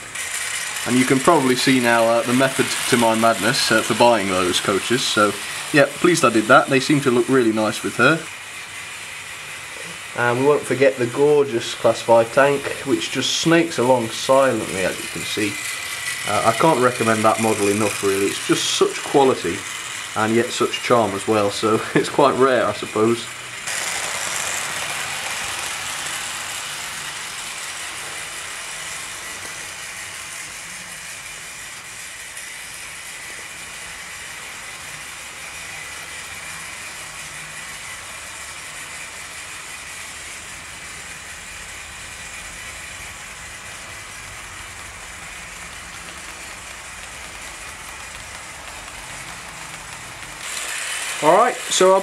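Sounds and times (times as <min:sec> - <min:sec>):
faint motor whine: 0:00.0 - 0:52.0
model train wheels rolling: 0:00.0 - 0:52.0.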